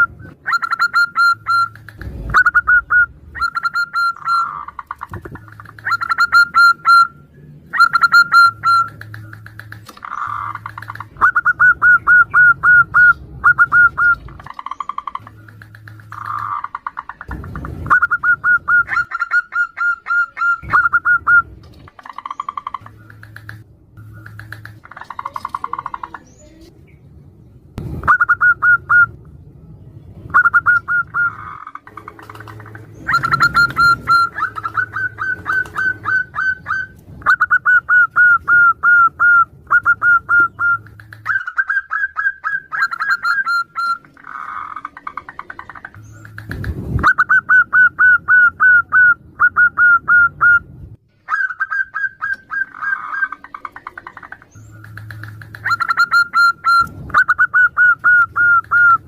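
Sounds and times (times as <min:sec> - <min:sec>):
doves cooing: 0:00.0 - 0:26.7, 0:30.3 - 0:50.6, 0:51.2 - 0:59.0.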